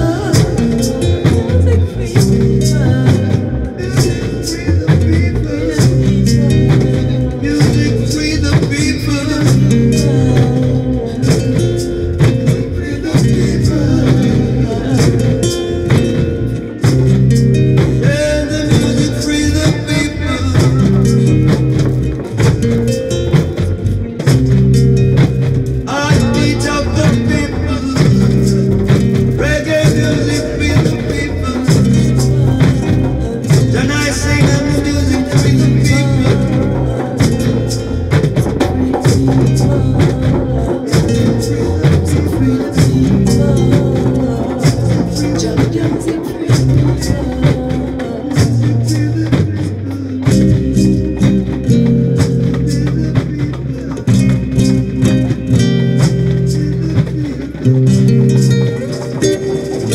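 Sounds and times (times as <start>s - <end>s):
person singing: 0.0s - 17.1s, 17.8s - 22.1s, 25.8s - 59.9s
acoustic reggae band: 0.0s - 59.9s
deep bass line: 0.0s - 59.9s
hand drum: 0.0s - 59.9s
percussion beat: 0.0s - 59.9s.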